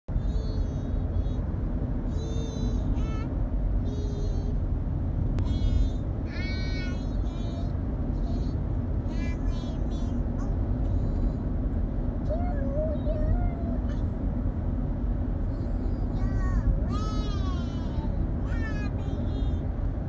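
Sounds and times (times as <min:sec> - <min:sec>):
road rumble inside a car: 0:00.1 - 0:20.0.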